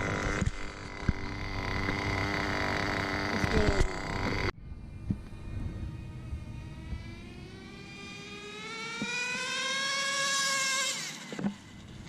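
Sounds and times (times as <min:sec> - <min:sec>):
rc car engine whine: 0:00.0 - 0:12.0.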